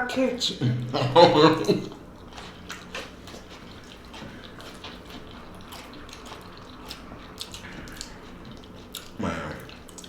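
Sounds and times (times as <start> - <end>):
wet chewing mouth sounds: 0.4 - 10.0.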